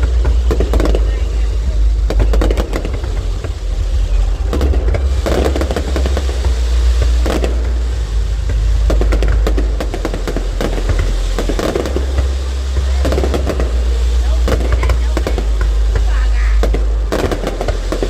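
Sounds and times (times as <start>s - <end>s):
fireworks bursts: 0.0s - 18.0s
fireworks crackling: 0.0s - 18.0s
heavy low rumble: 0.0s - 18.0s.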